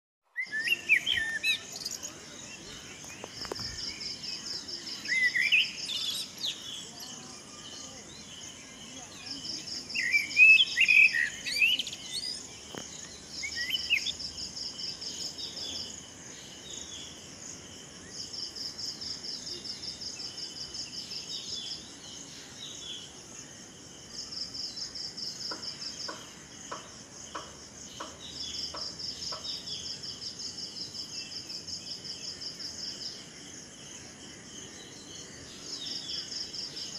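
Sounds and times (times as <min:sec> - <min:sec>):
birds chirping: 0:00.3 - 0:36.9.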